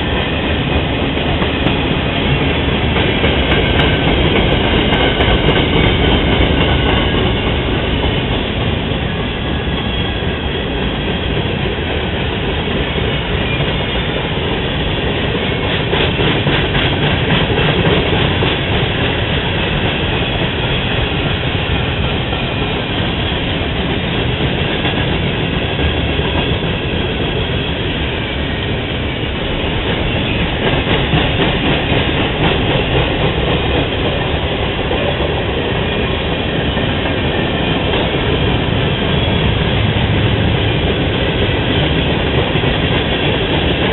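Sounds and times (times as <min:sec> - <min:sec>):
freight train rumbling past: 0:00.0 - 0:43.9
train wheel clatter: 0:00.0 - 0:43.9.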